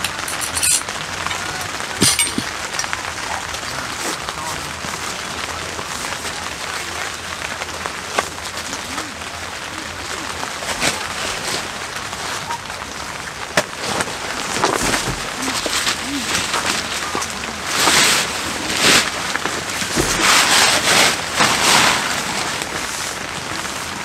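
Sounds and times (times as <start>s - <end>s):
rain pattering on tent fabric: 0.0s - 24.0s
tarpaulin rustling: 0.0s - 24.0s.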